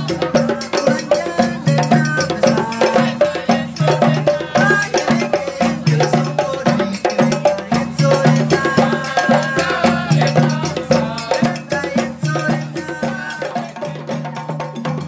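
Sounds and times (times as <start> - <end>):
djembe drum ensemble: 0.0 - 15.0.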